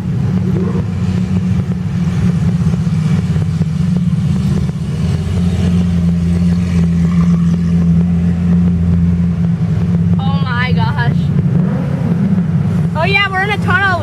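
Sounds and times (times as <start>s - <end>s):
car engines running loudly: 0.0s - 14.0s.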